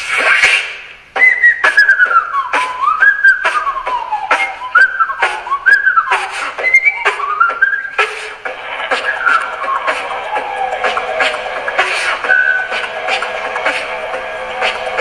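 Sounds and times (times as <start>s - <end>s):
beatboxed mouth clicks: 0.0s - 14.0s
whistled sliding melody: 0.1s - 15.0s.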